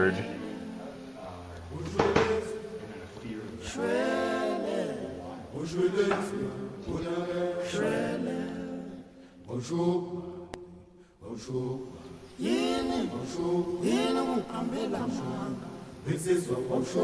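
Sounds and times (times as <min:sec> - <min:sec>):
voices singing a slow chant: 0:00.0 - 0:17.0.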